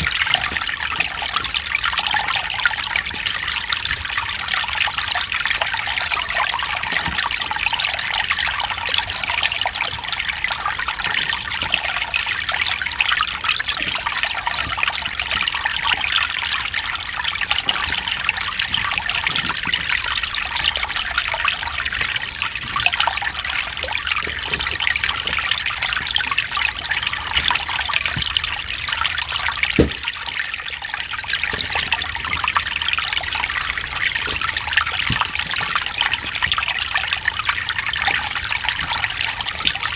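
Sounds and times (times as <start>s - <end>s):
deep water plop: 0.0s - 39.9s
stream babbling over rocks: 0.0s - 39.9s.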